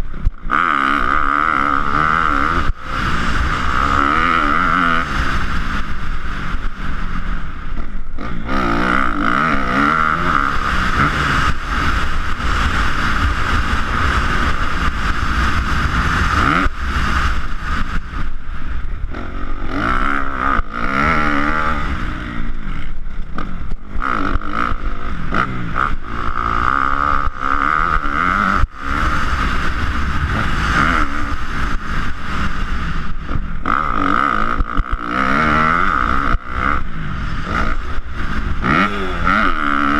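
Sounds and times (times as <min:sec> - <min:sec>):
dirt bike engine revving: 0:00.0 - 0:18.3, 0:19.0 - 0:39.9.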